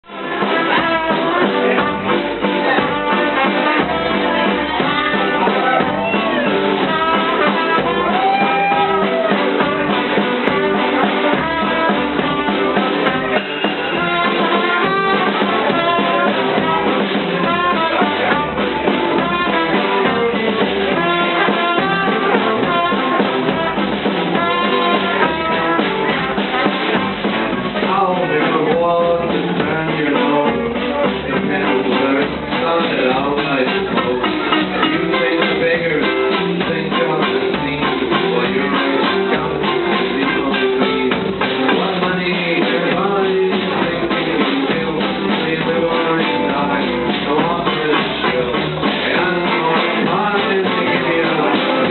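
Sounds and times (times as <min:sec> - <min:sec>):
brass melody: 0:00.0 - 0:51.9
live swing band playing: 0:00.0 - 0:51.9.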